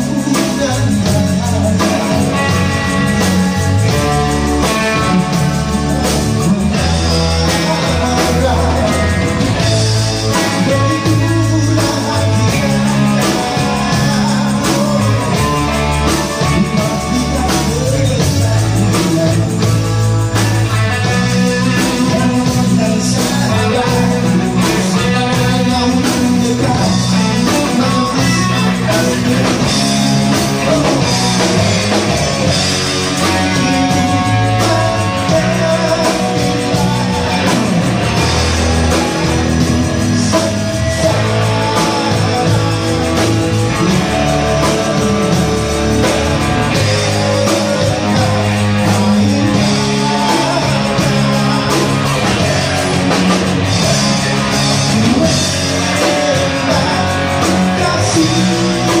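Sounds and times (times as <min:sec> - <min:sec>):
distorted electric guitars: 0:00.0 - 0:59.0
drums: 0:00.0 - 0:59.0
person singing: 0:00.0 - 0:59.0.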